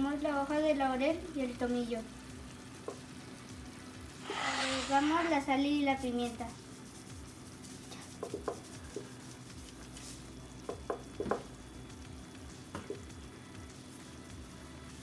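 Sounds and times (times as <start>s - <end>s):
vegetables sizzling in a frying pan: 0.0s - 14.8s.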